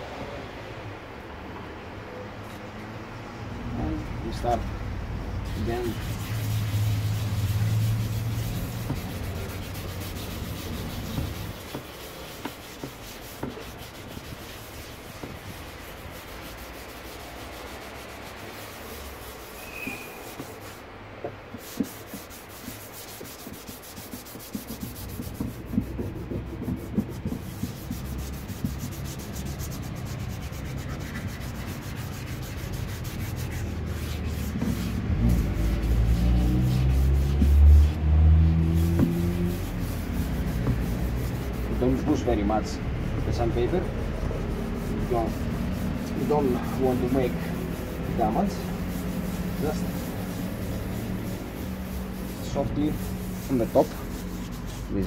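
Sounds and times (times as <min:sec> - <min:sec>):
sandpaper rubbing on plastic: 0:05.4 - 0:55.0.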